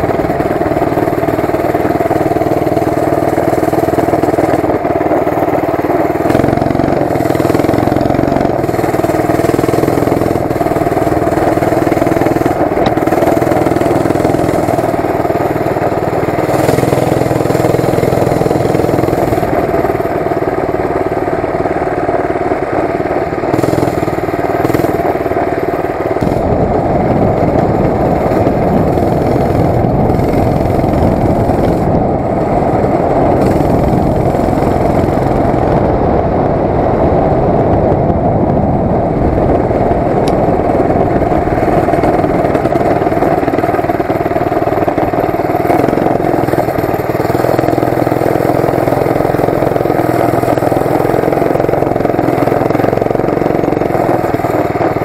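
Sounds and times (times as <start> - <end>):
small motorbike engine droning: 0.0 - 55.0.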